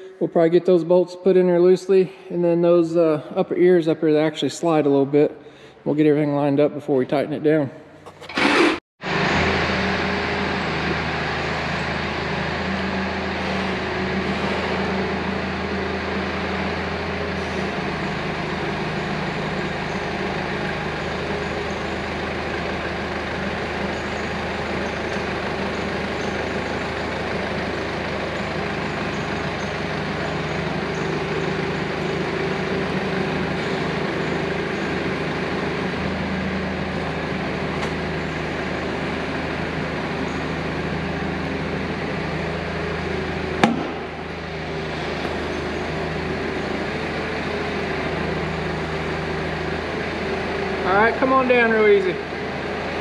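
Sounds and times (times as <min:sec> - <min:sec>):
forklift engine running: 0:08.0 - 0:53.0.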